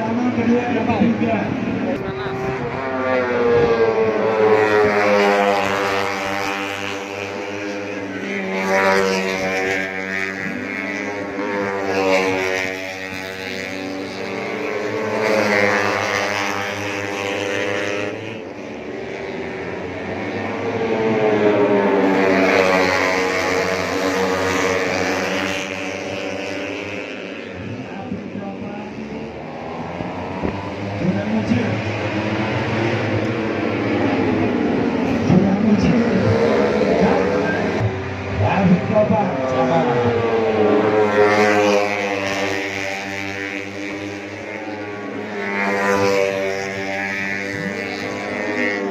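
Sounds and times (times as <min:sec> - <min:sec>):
motorcycles racing at high revs: 0:00.0 - 0:48.9.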